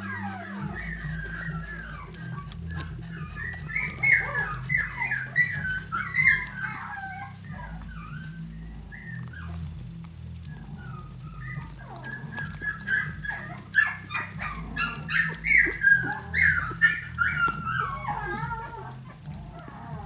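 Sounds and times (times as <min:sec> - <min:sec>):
puppies whimpering and squeaking: 0:00.0 - 0:20.0.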